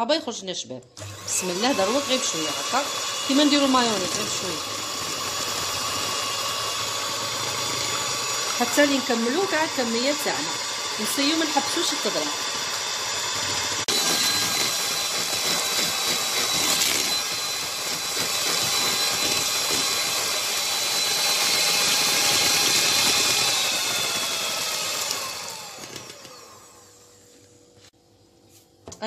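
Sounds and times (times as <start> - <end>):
mixer motor winding down: 1.0 - 27.2
electric hand mixer whining: 1.0 - 27.7.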